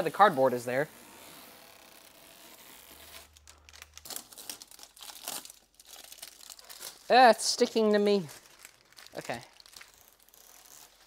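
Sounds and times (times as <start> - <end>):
tape peeling and crinkling: 0.0 - 11.0.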